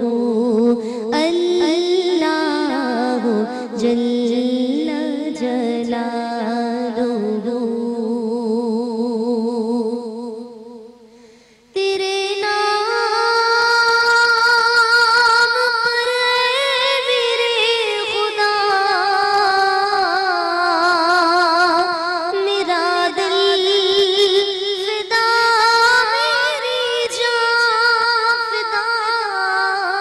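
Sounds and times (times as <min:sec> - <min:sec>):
woman singing with vibrato: 0:00.0 - 0:11.0, 0:11.7 - 0:30.0.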